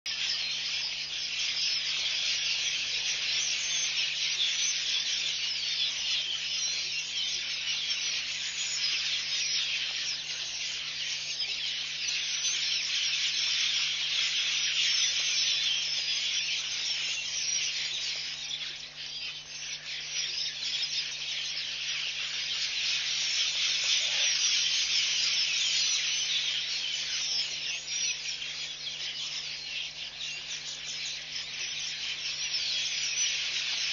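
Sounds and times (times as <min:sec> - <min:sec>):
insects buzzing: 0:01.3 - 0:33.9.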